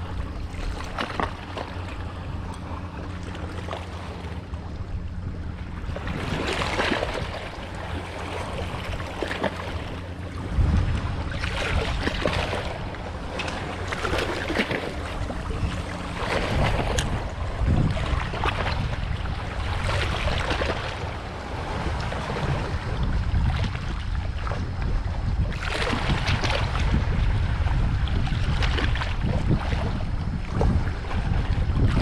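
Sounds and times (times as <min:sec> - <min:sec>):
constant low rumble: 0:00.0 - 0:32.0
wind buffeting microphone: 0:00.0 - 0:32.0.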